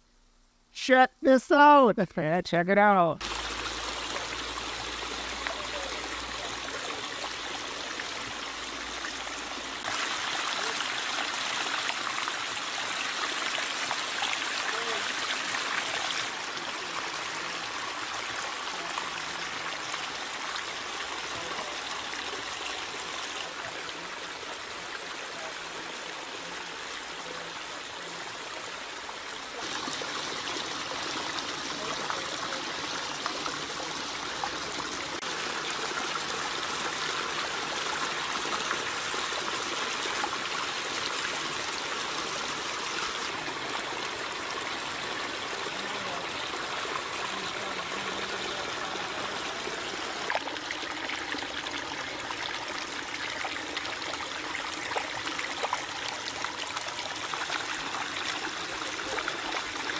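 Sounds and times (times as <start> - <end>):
waterfall splashing over boulders: 3.2 - 59.9.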